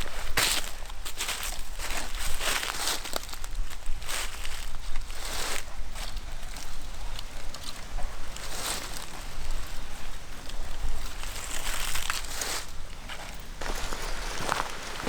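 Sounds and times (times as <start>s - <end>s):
dry leaves and twigs crunching: 0.0s - 15.0s.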